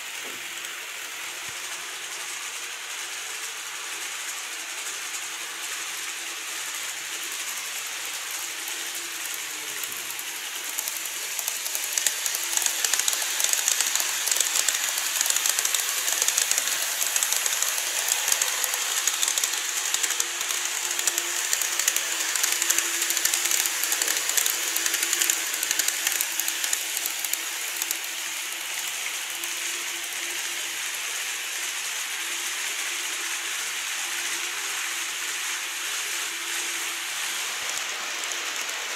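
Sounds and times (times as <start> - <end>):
model train wheels clicking on rails: 0.0 - 38.9.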